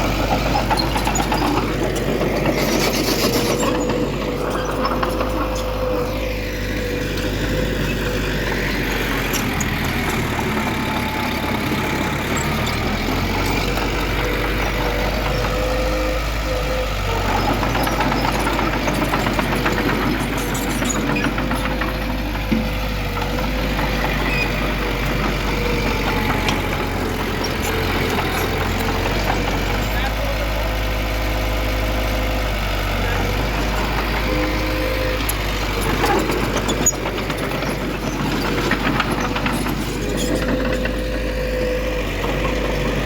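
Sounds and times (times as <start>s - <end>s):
heavy machinery diesel engine: 0.0s - 43.0s.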